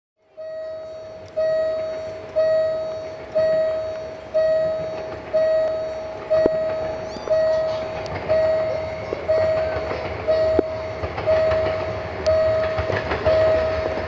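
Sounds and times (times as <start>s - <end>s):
level crossing bell ringing: 0.4s - 14.0s.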